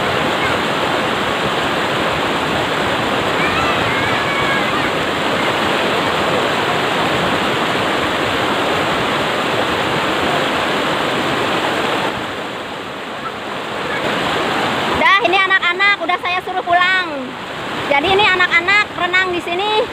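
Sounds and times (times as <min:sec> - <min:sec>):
river water rushing over rocks: 0:00.0 - 0:19.9.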